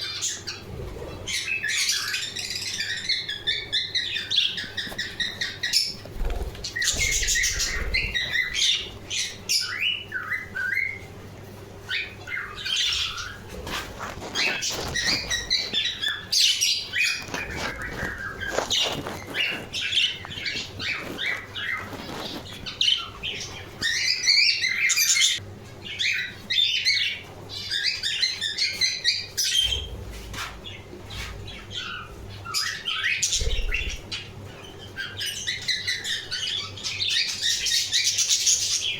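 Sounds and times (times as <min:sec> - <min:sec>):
budgerigars chattering: 0:00.0 - 0:11.0, 0:11.9 - 0:38.9.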